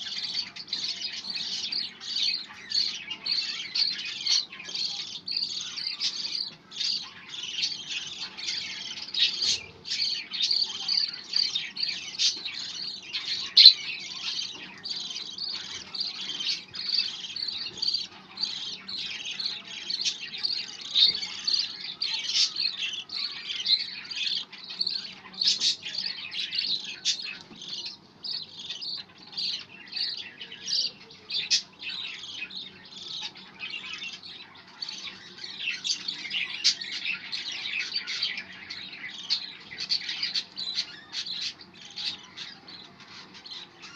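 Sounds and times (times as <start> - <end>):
budgerigar chirping and squawking: 0.0 - 43.9.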